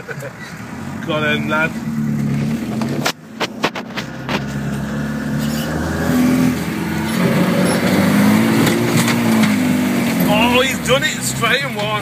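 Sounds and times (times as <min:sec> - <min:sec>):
diesel engine from inside cab: 0:00.0 - 0:12.0.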